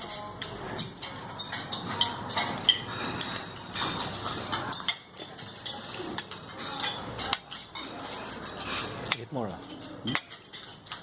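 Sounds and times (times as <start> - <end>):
cutlery clinking against dishes: 0.0 - 11.0.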